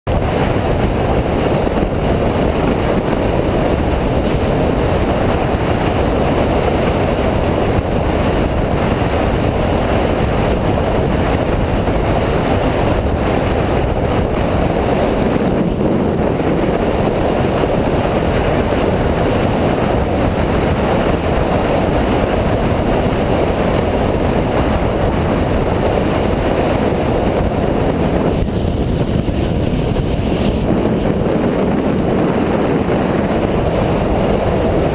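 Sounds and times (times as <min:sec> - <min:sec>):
dirt bike engine running: 0:00.1 - 0:34.9
wind buffeting microphone: 0:00.1 - 0:34.9.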